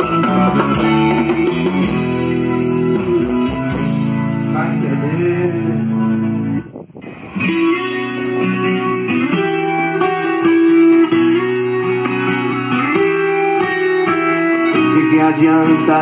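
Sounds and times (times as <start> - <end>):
pop song through car speakers: 0.0 - 16.0.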